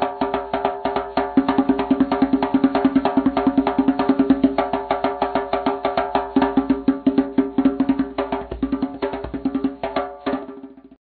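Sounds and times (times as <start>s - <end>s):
fast pitched percussion music: 0.0s - 10.9s.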